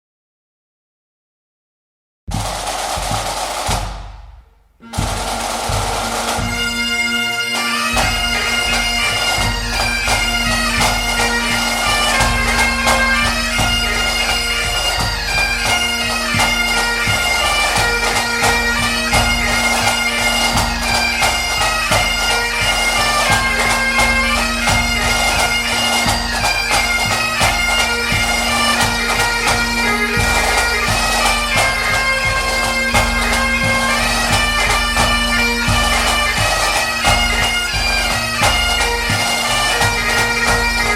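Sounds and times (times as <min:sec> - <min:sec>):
bagpipe music: 0:04.8 - 0:40.9.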